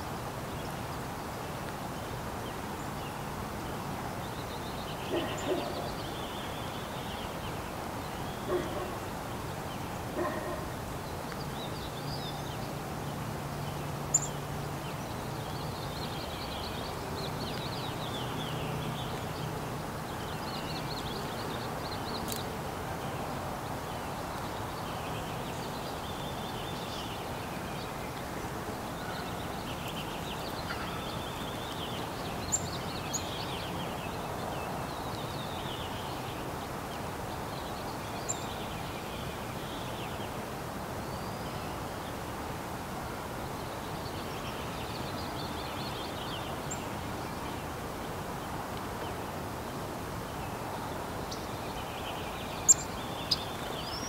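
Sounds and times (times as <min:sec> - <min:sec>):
outdoor hiss: 0:00.0 - 0:54.0
songbirds chirping: 0:00.0 - 0:54.0.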